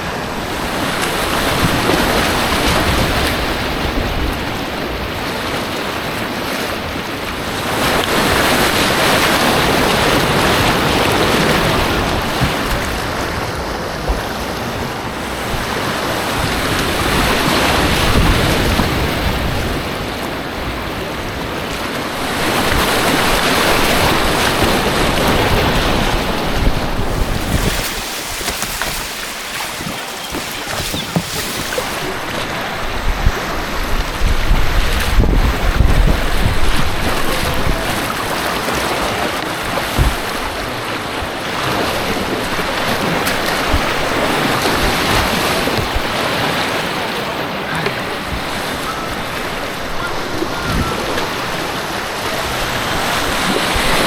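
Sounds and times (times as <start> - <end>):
wind noise on microphone: 0.0 - 46.7, 48.2 - 54.0
rushing white water: 0.0 - 54.0.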